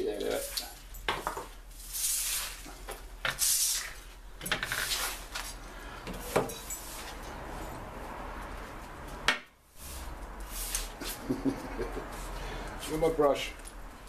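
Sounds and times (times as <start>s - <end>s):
broom sweeping concrete floor: 0.0s - 13.5s.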